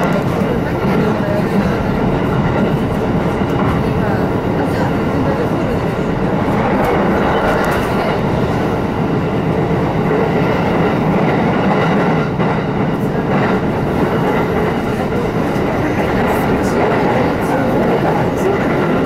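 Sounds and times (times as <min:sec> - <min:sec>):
train wheels on rail: 0:00.0 - 0:19.0.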